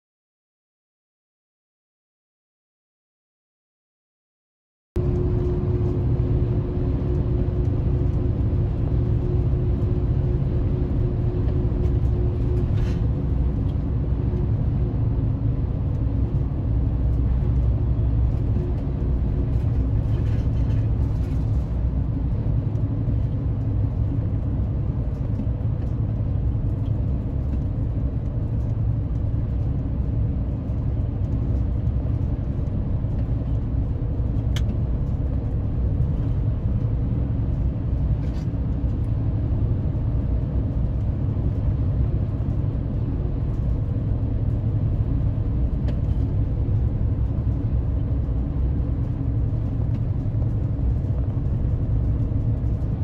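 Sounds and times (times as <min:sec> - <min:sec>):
car cabin road noise: 0:05.0 - 0:53.0.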